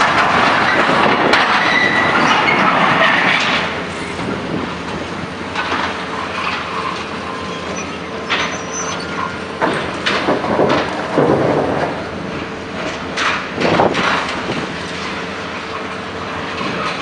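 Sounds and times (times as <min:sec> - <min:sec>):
diesel engines: 0:00.0 - 0:17.0.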